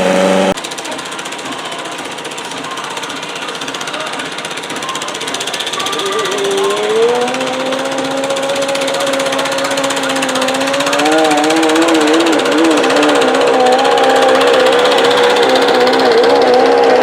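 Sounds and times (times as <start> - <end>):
tractor engine at full throttle: 0.0 - 17.0.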